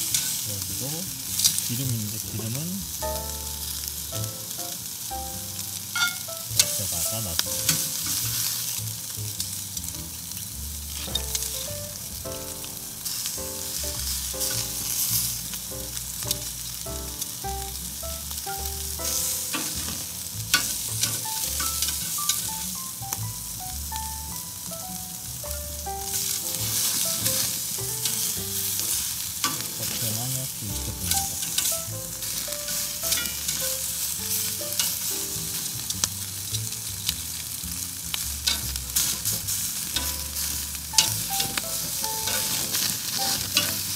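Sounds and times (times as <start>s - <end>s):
sharp crackling pops: 0.0s - 24.1s, 26.0s - 43.9s
steaks sizzling on a grill: 0.0s - 43.9s.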